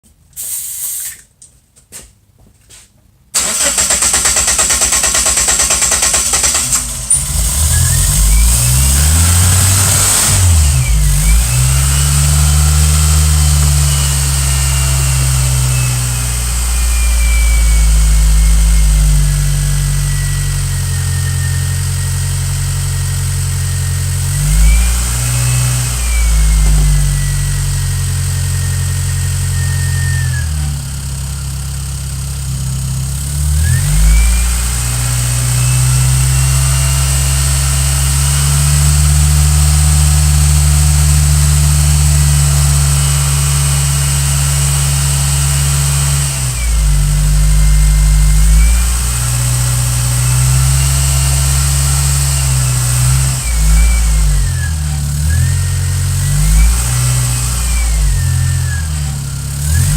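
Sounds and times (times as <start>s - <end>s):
car engine revving: 3.4s - 59.9s.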